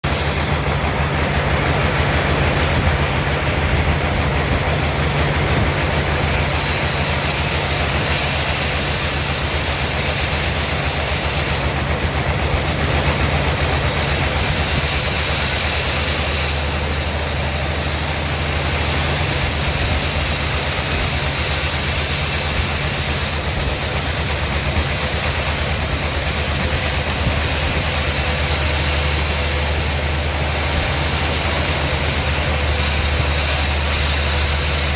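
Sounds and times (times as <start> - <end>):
sawmill machinery humming: 0.0 - 34.9.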